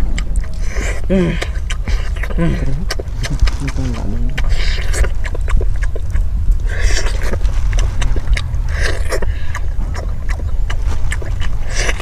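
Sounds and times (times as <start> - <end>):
person chewing food: 0.0 - 12.0
wind rumbling on microphone: 0.0 - 12.0.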